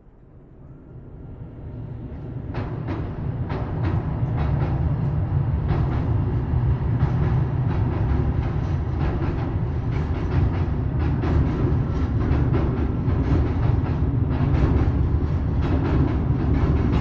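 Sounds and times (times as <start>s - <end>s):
train rumbling past: 0.0s - 17.0s
wheels clacking over rail joints: 2.2s - 17.0s.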